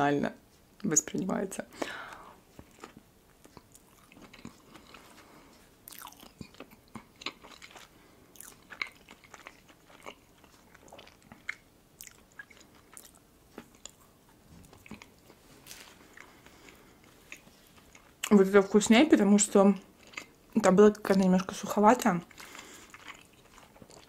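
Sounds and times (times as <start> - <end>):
person chewing pastry: 1.9 - 18.4, 19.8 - 21.6, 22.2 - 24.0.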